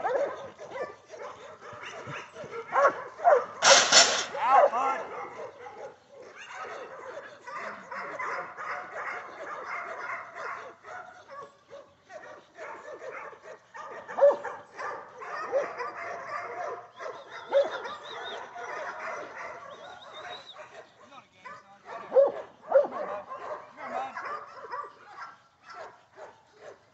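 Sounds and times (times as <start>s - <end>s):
dogs barking and yipping: 0.0s - 26.9s.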